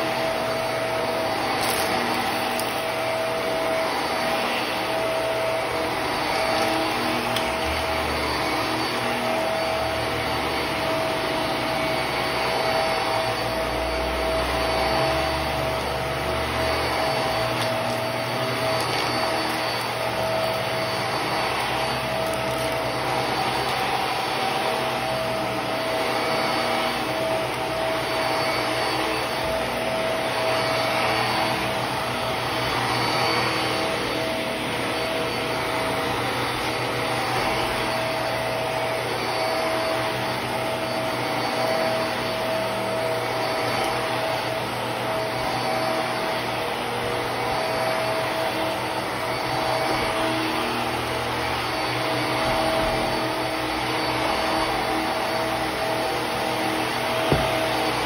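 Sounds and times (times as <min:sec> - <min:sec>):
vacuum cleaner running on carpet: 0:00.0 - 0:58.0.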